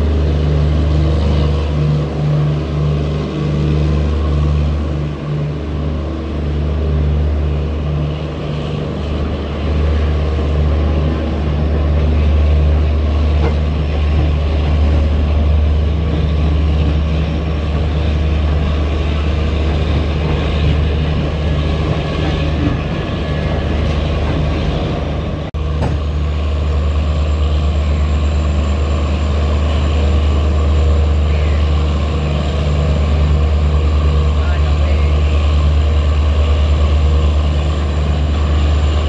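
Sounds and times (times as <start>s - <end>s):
train diesel engine drone: 0.0s - 39.0s.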